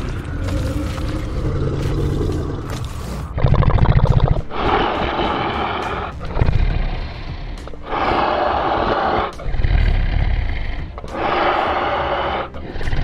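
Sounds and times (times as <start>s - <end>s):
dinosaur roars: 0.0s - 13.0s
low rumble: 0.0s - 13.0s.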